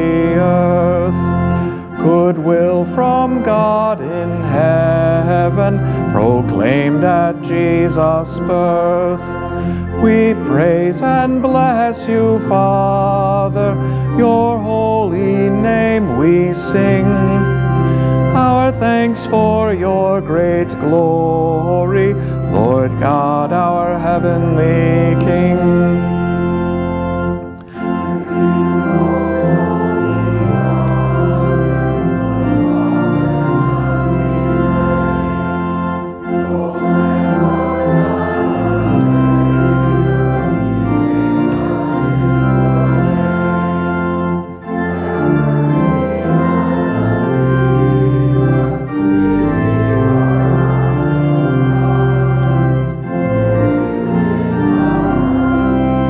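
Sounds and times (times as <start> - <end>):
church organ playing a hymn: 0.0 - 56.0.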